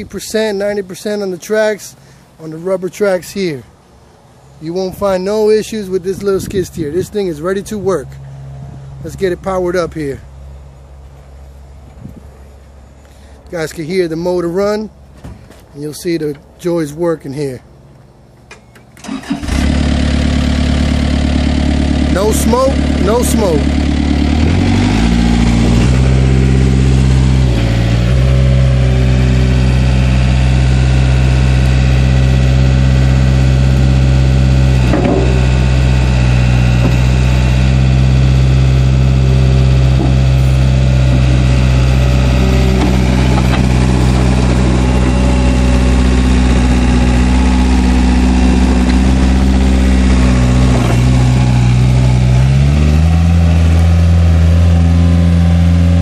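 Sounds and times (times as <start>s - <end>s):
diesel engine running: 0.0s - 15.6s, 19.0s - 56.0s.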